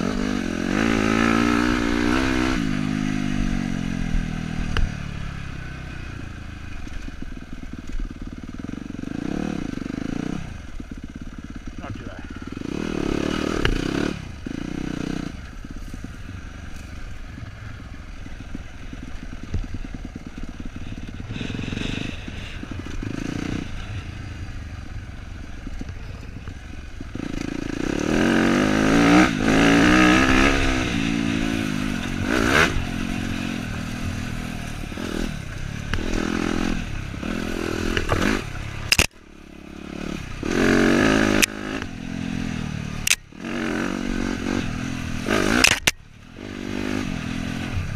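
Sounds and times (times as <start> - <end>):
bike rattling and scraping: 0.0 - 47.9
dirt bike engine revving: 0.0 - 47.9.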